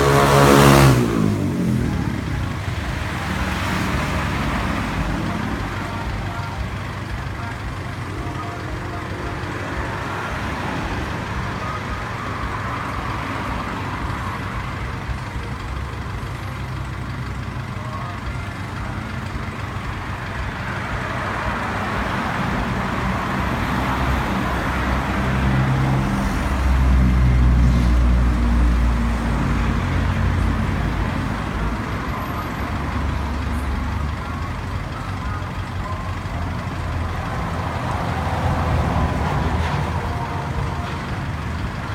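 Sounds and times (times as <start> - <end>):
road noise: 0.0 - 41.9
vehicle engine running: 0.0 - 41.9.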